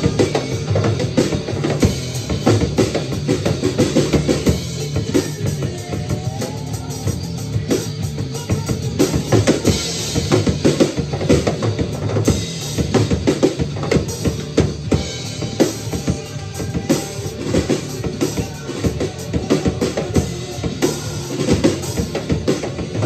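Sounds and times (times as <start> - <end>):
drum kit playing rock groove: 0.0 - 23.0
recorded rock song: 0.0 - 23.0.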